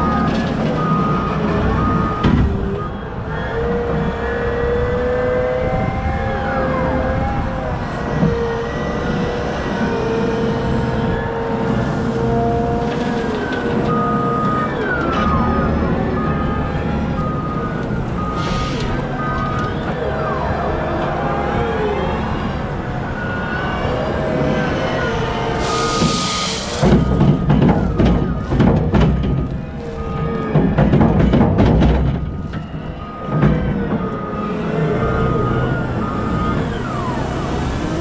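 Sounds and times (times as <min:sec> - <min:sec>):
heavy machinery engine running: 0:00.0 - 0:38.0
reversing alarm beeps: 0:00.0 - 0:38.0
whining tones sliding: 0:00.0 - 0:38.0.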